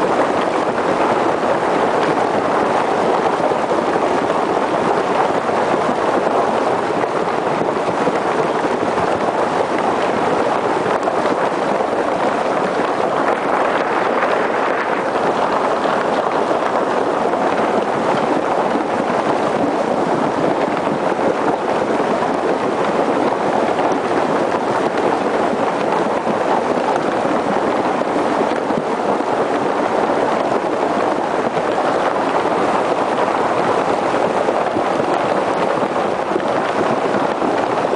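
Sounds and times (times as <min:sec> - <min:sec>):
river water roaring: 0:00.0 - 0:37.9.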